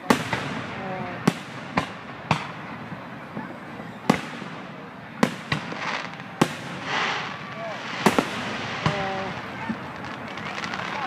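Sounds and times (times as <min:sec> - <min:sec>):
firework shells booming: 0:00.0 - 0:11.0.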